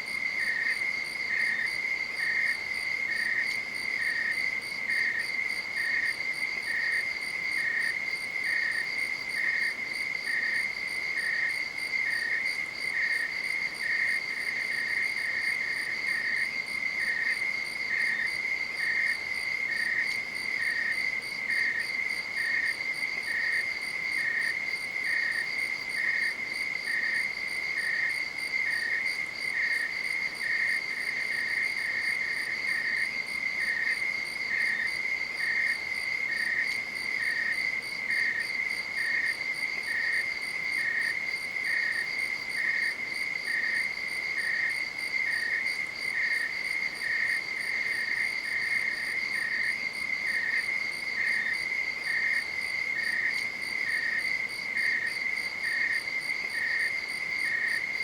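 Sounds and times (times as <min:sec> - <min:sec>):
insect chirp: 0:00.0 - 0:58.0
night insects trilling: 0:00.0 - 0:58.0.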